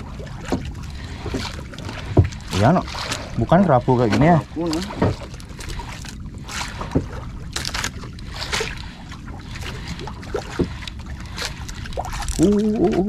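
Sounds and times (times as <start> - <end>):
water washing against boat hull: 0.0 - 13.0.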